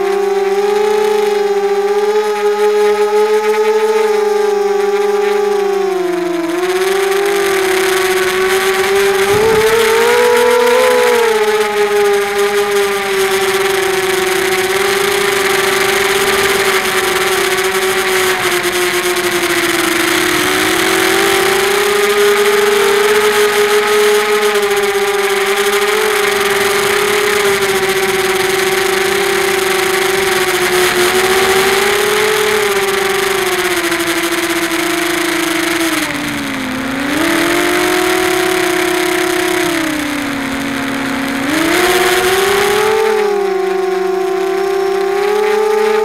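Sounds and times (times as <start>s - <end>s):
drone motors whining: 0.0s - 46.0s.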